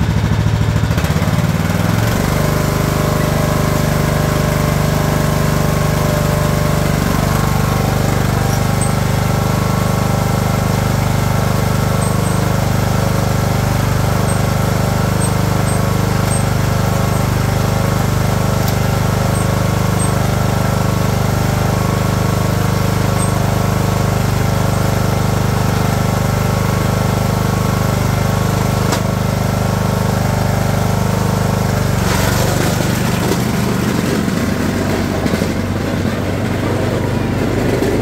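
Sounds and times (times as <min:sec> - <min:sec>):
lawn tractor engine running: 0:00.0 - 0:38.0.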